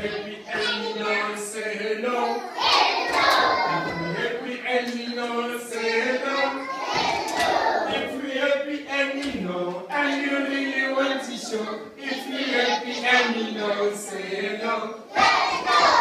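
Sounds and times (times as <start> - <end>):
small children singing: 0.0 - 16.0.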